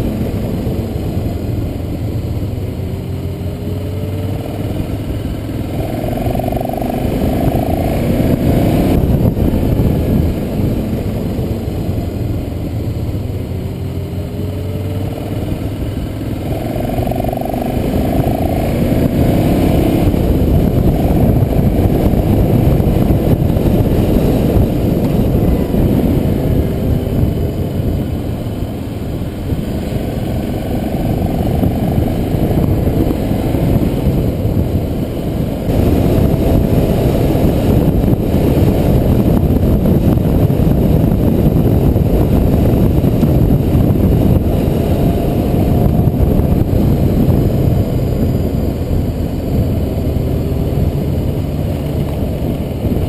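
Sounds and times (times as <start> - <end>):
motorcycle engine: 0.0 - 53.0
wind rushing over microphone: 0.0 - 53.0.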